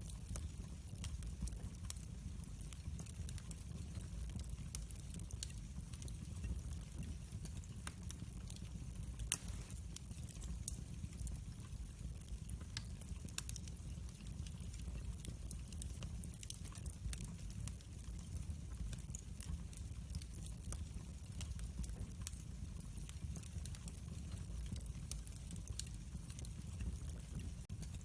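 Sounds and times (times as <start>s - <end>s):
burning wood crackling and popping: 0.0s - 28.0s
low rumble of flames: 0.0s - 28.0s.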